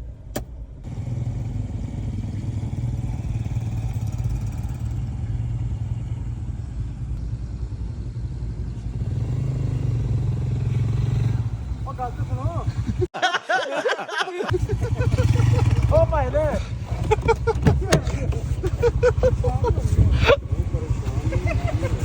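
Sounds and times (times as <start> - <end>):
vehicle engine running: 0.0 - 13.1, 14.5 - 22.0.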